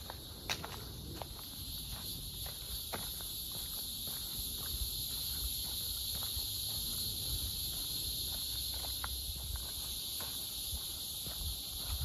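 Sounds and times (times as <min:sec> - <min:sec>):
cicadas buzzing: 0:00.0 - 0:12.0
footsteps on dirt trail: 0:00.0 - 0:12.0.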